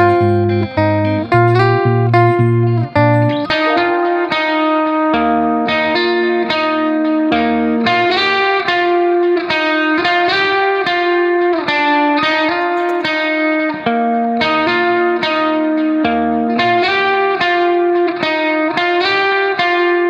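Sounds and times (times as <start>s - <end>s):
picked melody over held tone: 0.0s - 20.0s.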